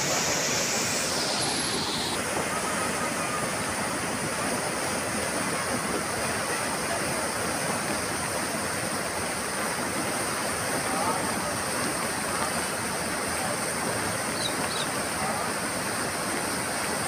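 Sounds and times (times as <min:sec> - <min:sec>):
fast-flowing water rushing: 0:00.0 - 0:17.0.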